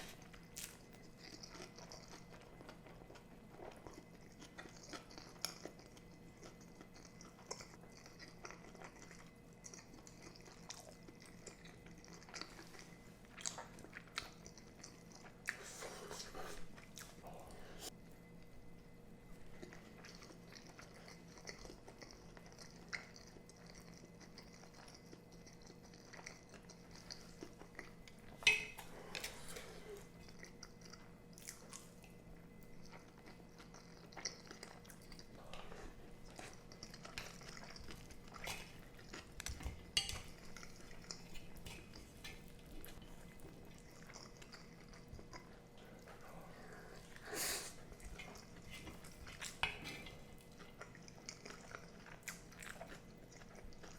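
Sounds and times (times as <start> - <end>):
person chewing: 0.0 - 17.6, 19.4 - 53.9.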